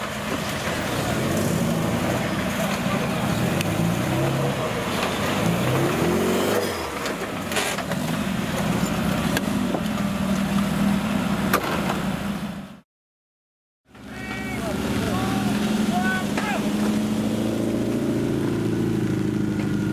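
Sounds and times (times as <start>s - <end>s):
engine running and revving: 0.0s - 12.8s, 13.9s - 19.9s.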